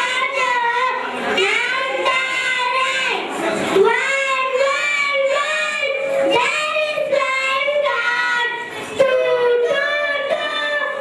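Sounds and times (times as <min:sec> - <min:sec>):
girls singing into microphones: 0:00.0 - 0:11.0.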